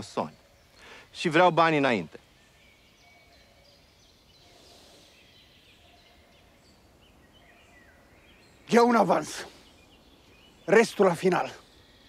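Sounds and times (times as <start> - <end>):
faint high chirps: 0.0 - 12.0.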